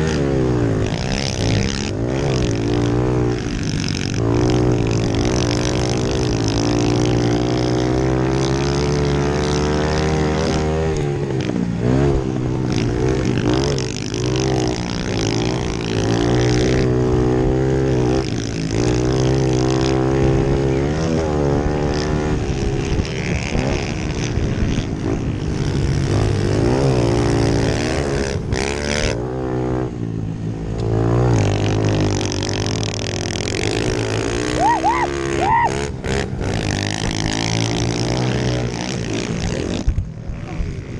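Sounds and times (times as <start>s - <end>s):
pit bike engines racing: 0.0s - 40.9s.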